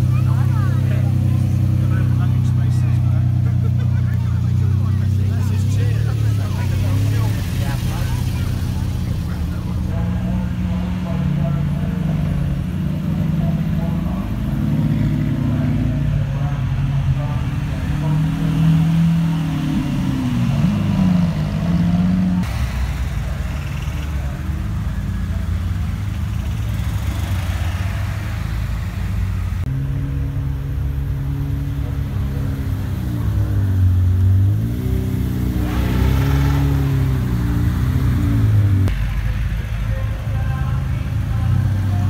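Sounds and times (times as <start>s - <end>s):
car engines idling and revving: 0.0s - 42.0s.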